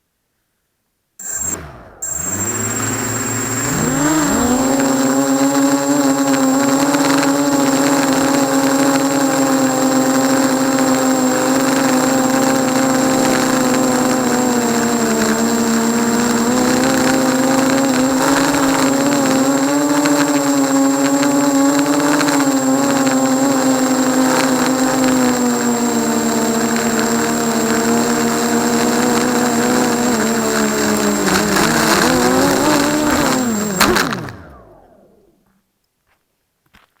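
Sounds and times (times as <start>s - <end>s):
quadcopter motors buzzing: 1.2s - 35.5s.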